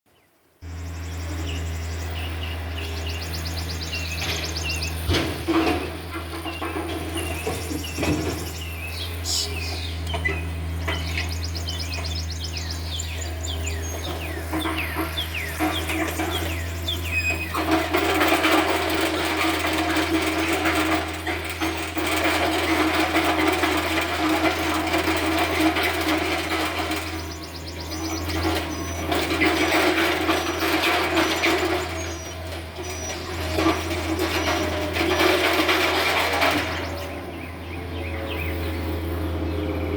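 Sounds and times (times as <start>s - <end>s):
birds chirping: 0.1s - 18.0s, 24.5s - 39.9s
excavator diesel engine running: 0.6s - 39.9s
loud working noise: 0.6s - 39.9s.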